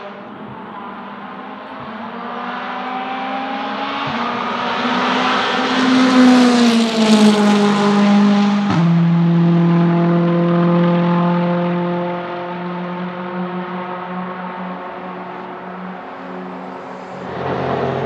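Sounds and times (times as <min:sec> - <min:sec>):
race car engine passing by: 0:00.0 - 0:18.0.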